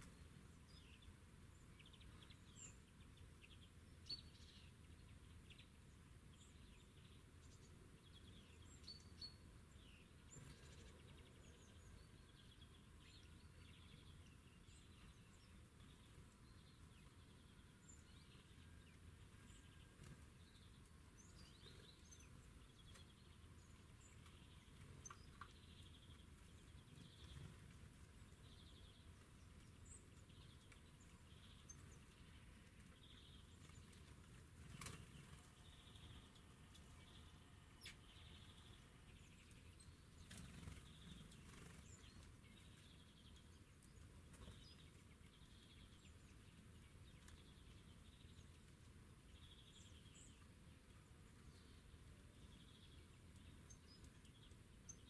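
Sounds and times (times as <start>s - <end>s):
faint small bird calls: 0.0s - 55.0s.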